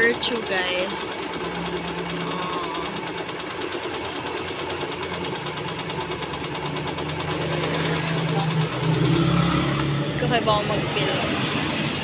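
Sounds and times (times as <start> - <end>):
sewing machine stitching: 0.0 - 10.3.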